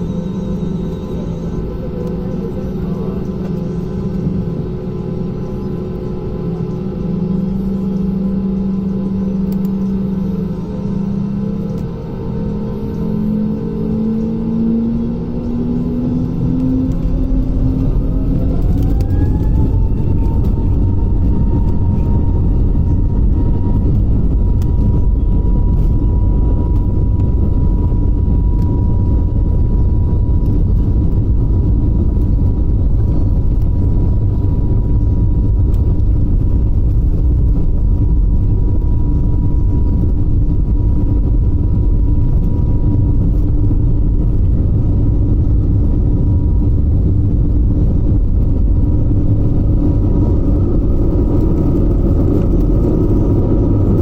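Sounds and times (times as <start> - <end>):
jet engine high whine: 0.0 - 54.0
jet engine low rumble: 0.0 - 54.0.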